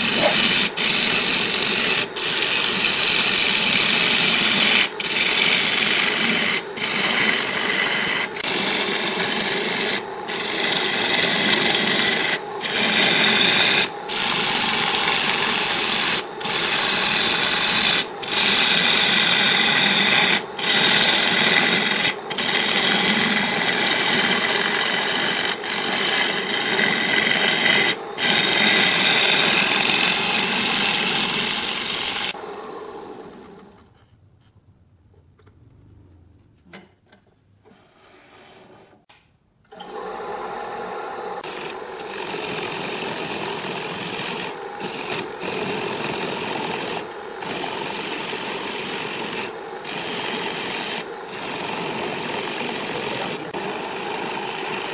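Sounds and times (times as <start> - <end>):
lathe gouge shaving wood: 0.0 - 33.8, 39.7 - 54.9
lathe winding down: 0.0 - 33.8, 39.7 - 54.9.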